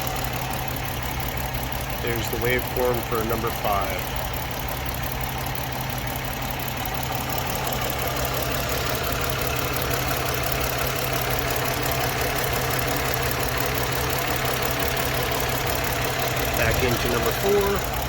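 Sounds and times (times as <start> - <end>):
misfiring car engine idling: 0.0 - 18.0.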